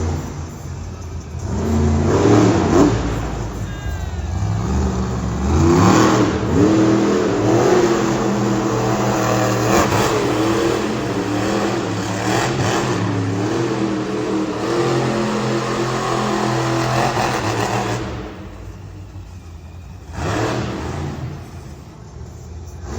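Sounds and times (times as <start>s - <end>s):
monster truck engine revving: 0.0s - 22.9s.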